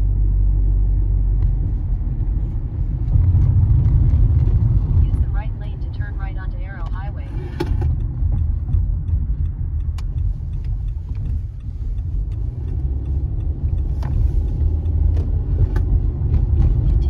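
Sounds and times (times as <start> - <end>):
tyre and engine rumble: 0.0 - 17.0.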